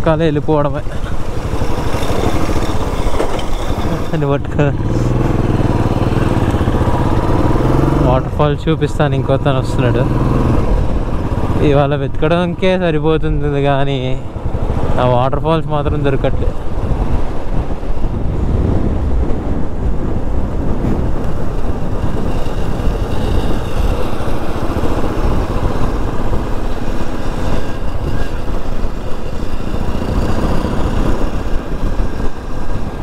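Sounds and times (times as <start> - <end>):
riding wind rush: 0.0 - 33.0
motorcycle engine running: 0.8 - 12.5, 16.6 - 33.0.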